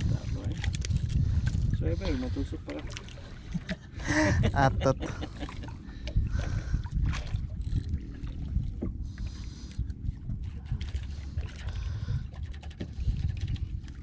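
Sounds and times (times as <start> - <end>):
boat engine low rumble: 0.0 - 14.0.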